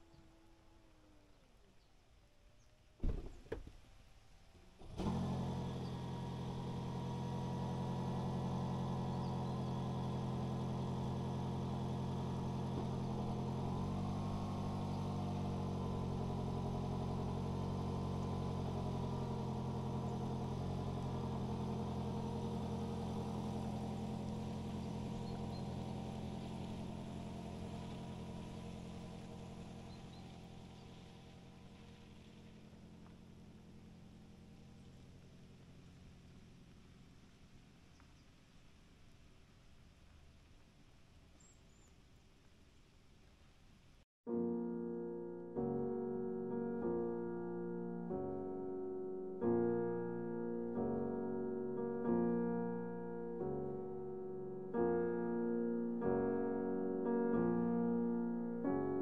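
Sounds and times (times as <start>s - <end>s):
car engine starting and running: 3.0s - 40.6s, 44.3s - 59.0s.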